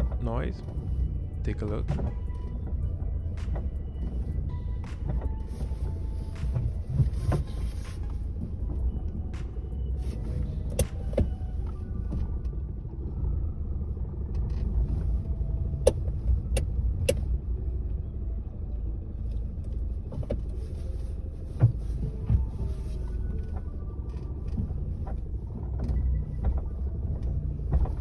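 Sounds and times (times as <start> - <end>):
car engine rumble: 0.0 - 28.0.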